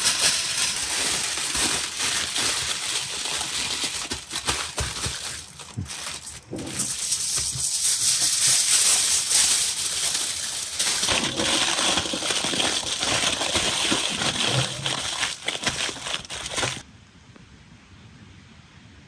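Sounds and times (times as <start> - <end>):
aluminium foil crinkling: 0.0 - 16.8.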